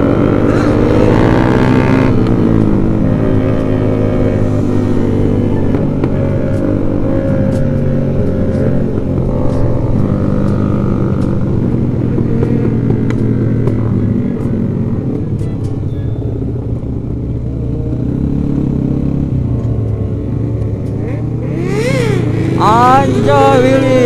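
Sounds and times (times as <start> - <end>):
motorcycle engine cruising: 0.0 - 24.0
other motorcycles riding nearby: 0.0 - 24.0.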